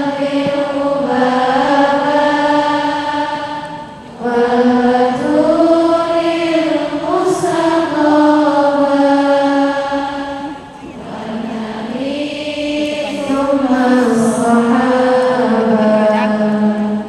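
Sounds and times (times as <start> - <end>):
chanting in long held notes: 0.0 - 17.0.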